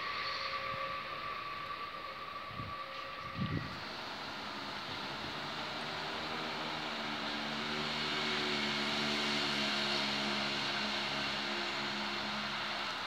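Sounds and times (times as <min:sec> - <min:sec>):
train engine hum: 0:00.0 - 0:13.0
train rushing noise: 0:00.0 - 0:13.0.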